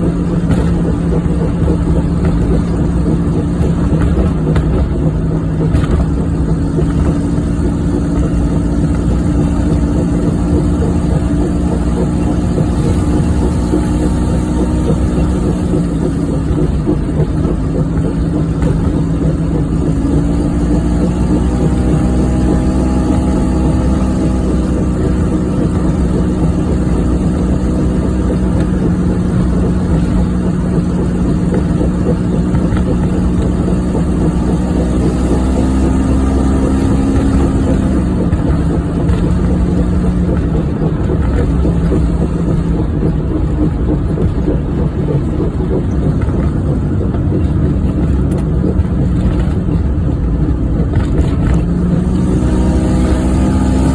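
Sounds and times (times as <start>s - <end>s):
car engine driving: 0.0s - 53.9s
road noise: 0.0s - 53.9s
wheel bearing drone: 0.0s - 53.9s.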